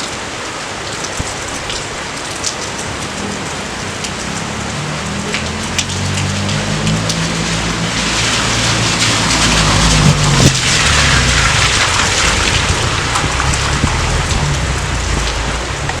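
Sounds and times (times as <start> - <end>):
heavy rain pattering: 0.0 - 16.0
continuous low rumble: 1.2 - 16.0.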